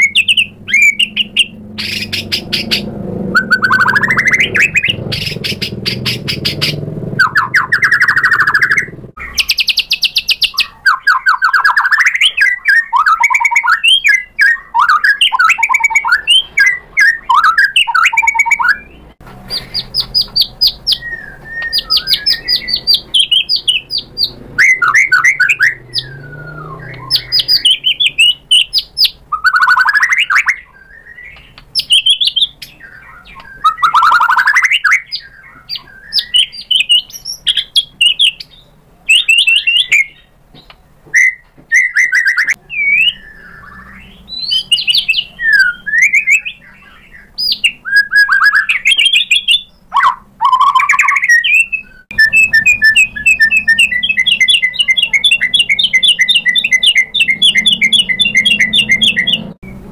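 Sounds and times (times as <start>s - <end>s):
songbird singing trills and whistles: 0.0s - 59.9s.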